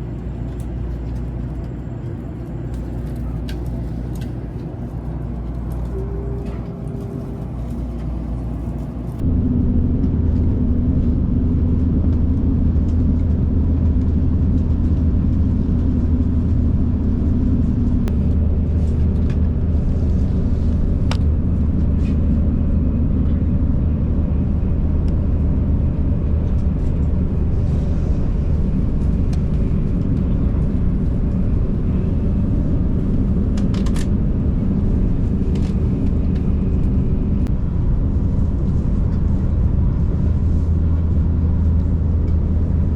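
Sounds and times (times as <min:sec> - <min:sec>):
train running at speed: 0:00.0 - 0:42.9.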